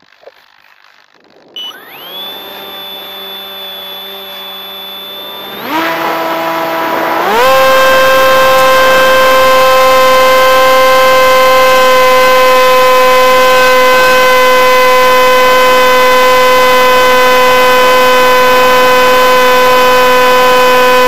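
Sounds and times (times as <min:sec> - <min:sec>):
electric motor propeller whine: 0:01.6 - 0:21.0.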